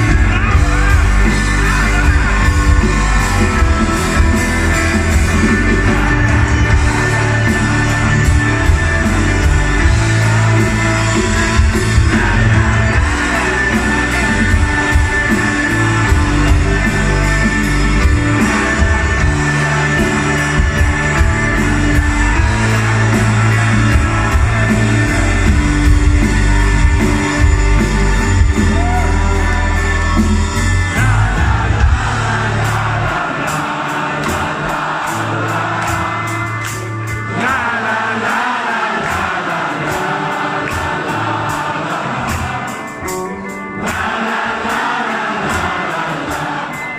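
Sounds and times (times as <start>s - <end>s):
live rock band playing: 0.0s - 46.9s
person singing: 0.0s - 46.9s.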